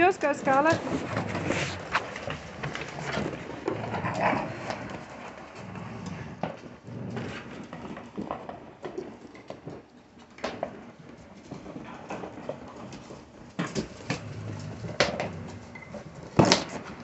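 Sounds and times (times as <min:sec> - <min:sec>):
paws and sticks tapping on floor: 0:00.0 - 0:17.0
puppies scuffling and chewing: 0:00.0 - 0:17.0.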